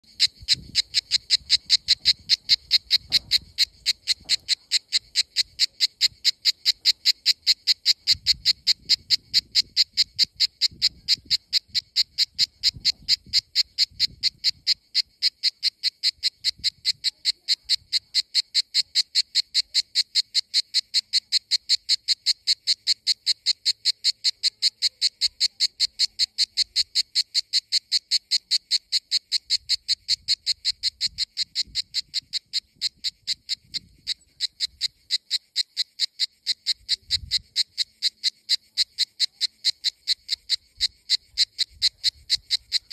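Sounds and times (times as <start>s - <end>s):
cicada buzzing: 0.0s - 42.9s.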